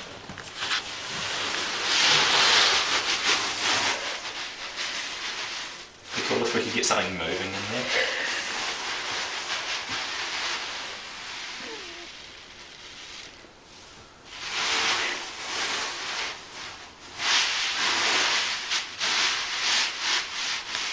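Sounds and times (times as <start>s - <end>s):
tiny beads hissing and rustling: 0.4s - 20.9s.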